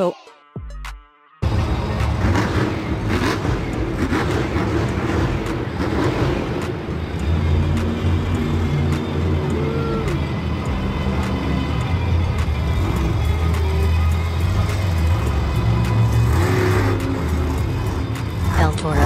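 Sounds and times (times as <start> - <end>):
monster truck engine drone: 1.4 - 19.0.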